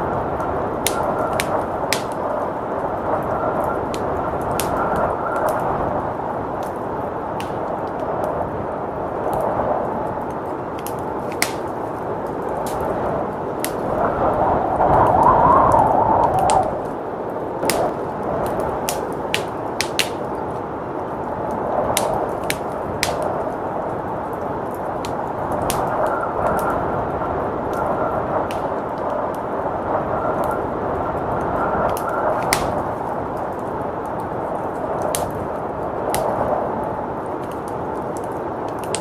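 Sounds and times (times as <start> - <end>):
blizzard wind: 0.0 - 39.0
fireplace crackling and popping: 0.0 - 39.0.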